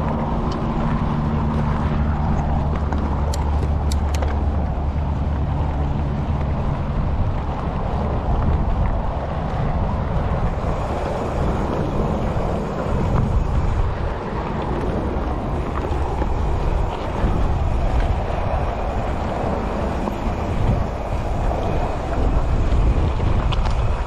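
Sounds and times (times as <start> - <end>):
bike clicks and rattles: 0.0 - 24.0
tyre noise: 0.0 - 24.0
wind on microphone: 0.0 - 24.0.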